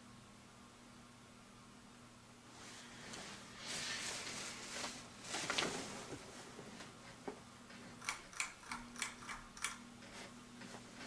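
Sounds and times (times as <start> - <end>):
ceiling fan motor humming: 0.0 - 11.0.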